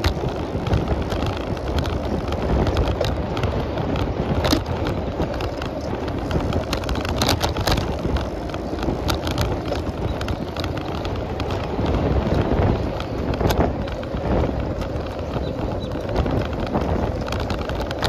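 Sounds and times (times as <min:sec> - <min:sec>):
bicycle clicks and rattles: 0:00.0 - 0:18.0
wind and tyre noise: 0:00.0 - 0:18.0.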